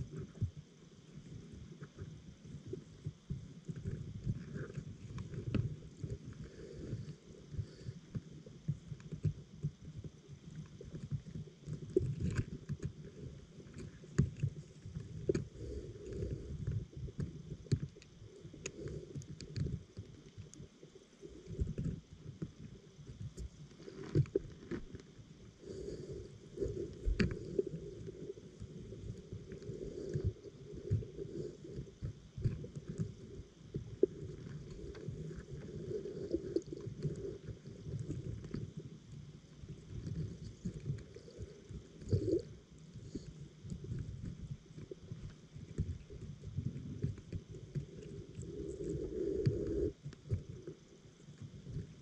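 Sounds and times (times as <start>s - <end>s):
muffled underwater water rumble: 0.0s - 52.0s.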